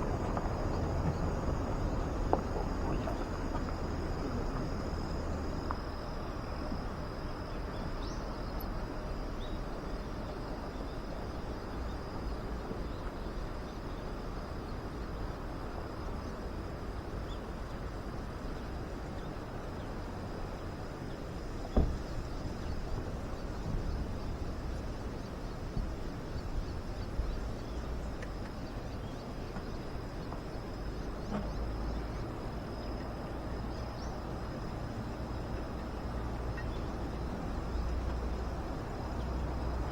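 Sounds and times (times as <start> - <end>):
insects trilling: 0.0 - 39.9
low background rumble: 0.0 - 39.9.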